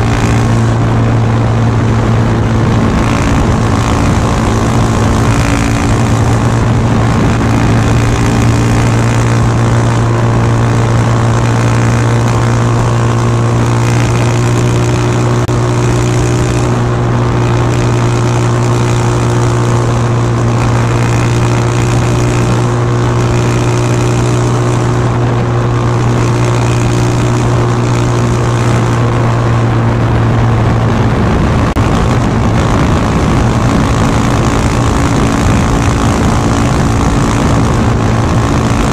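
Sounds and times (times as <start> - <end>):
motorcycle engine exhaust: 0.0 - 38.9.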